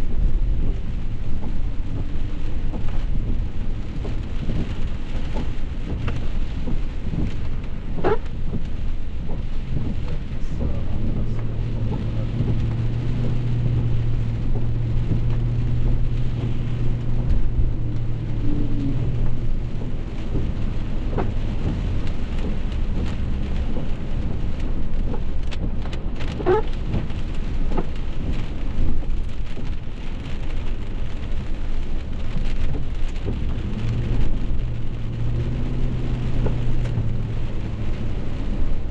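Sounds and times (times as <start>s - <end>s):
deep low rumble: 0.0s - 38.9s
heavy rain pouring: 0.0s - 38.9s.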